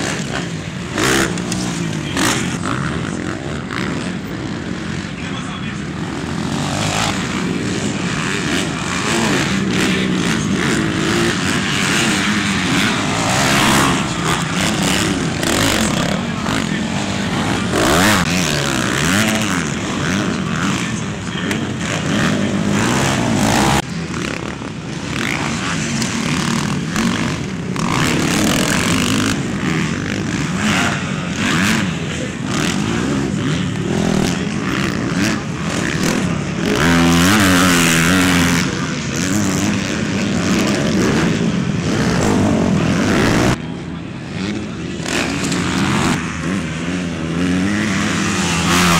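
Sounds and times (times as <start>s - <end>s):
motocross bikes revving: 0.0s - 48.9s.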